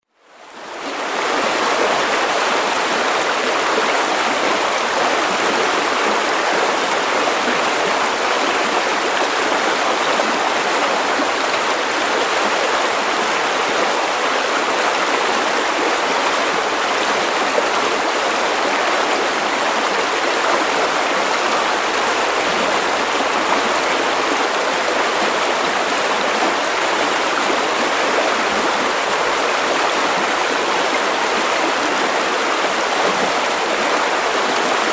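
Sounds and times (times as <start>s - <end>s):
stream rushing over stones: 0.4s - 34.9s.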